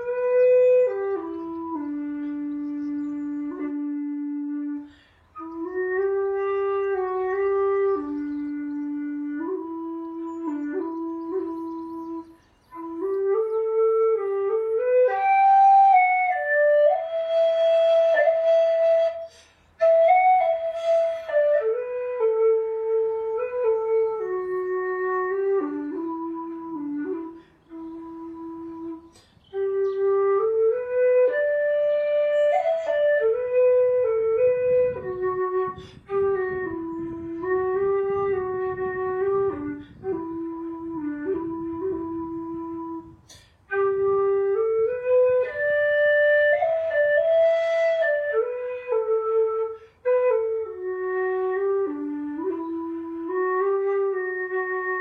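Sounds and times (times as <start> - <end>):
solo whistle melody: 0.0 - 55.0.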